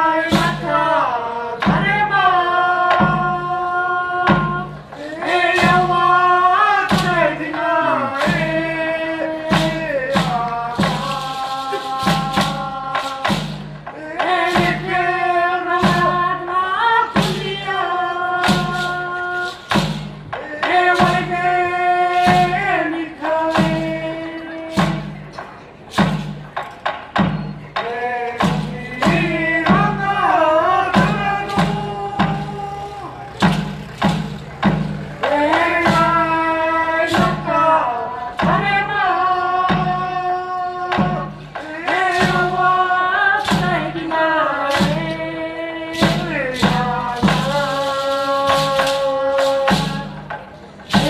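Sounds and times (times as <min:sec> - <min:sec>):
voices singing long held notes: 0:00.0 - 0:19.8, 0:27.6 - 0:50.2
steady thudding drum beat: 0:00.0 - 0:51.0.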